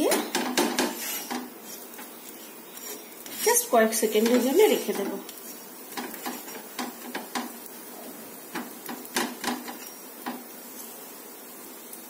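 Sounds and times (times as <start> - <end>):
spatula scraping frying pan: 0.2 - 11.0.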